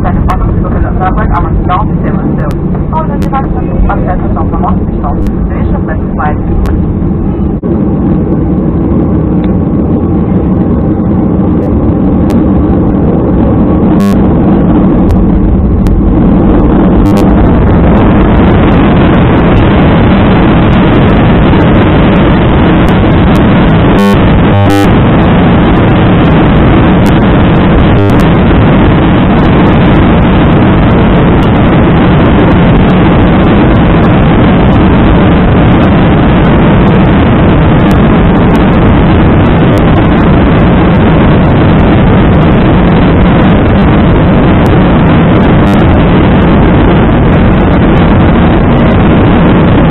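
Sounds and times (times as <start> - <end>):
jet engine roar in cabin: 0.0 - 49.9.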